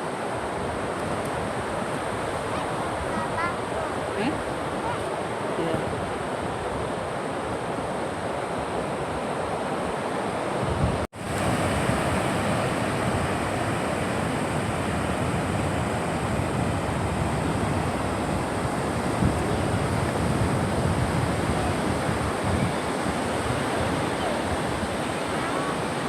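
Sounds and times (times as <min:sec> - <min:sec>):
rushing water: 0:00.0 - 0:26.0.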